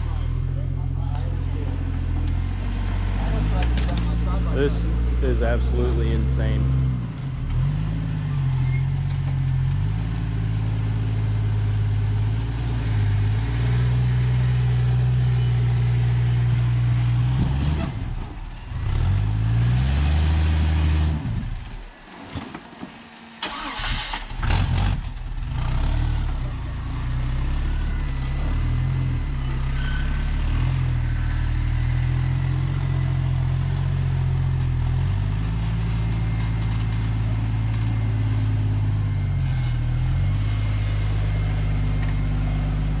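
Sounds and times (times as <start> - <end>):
off-road vehicle engine revving: 0.0 - 22.6, 23.4 - 43.0.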